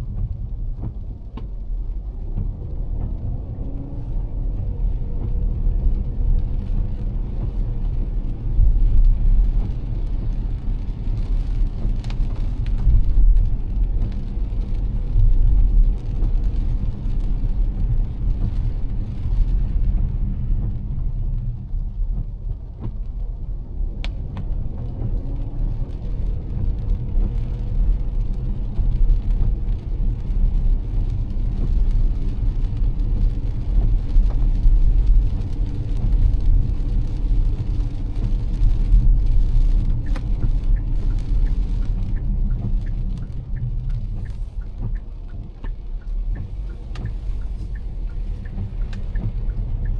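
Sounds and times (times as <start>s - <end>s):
car tyres and engine rumble: 0.0s - 49.9s
hiss of wet road and rain: 0.0s - 49.9s.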